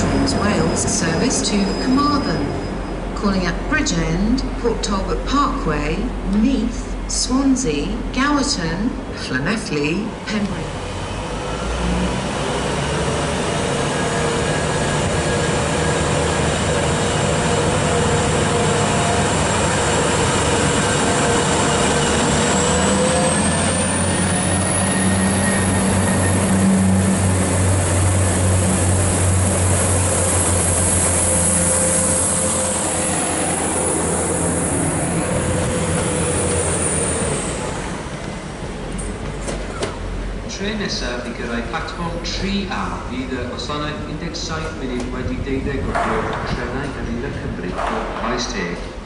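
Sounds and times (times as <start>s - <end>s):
high train whine: 0.0s - 49.0s
train engine drone: 0.0s - 49.0s.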